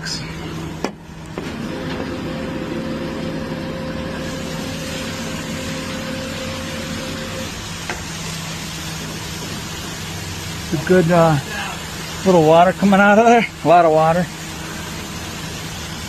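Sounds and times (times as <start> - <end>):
hydraulic whine: 0.0 - 12.9
truck engine hum: 0.0 - 16.0.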